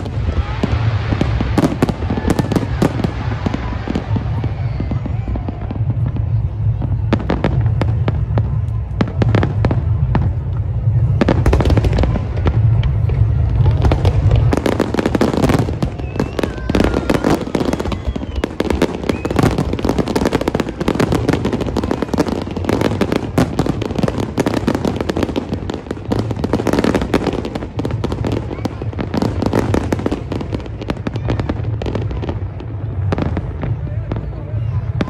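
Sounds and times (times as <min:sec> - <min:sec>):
fireworks bursting and crackling: 0:00.0 - 0:35.0
heavy low rumble: 0:00.0 - 0:35.0.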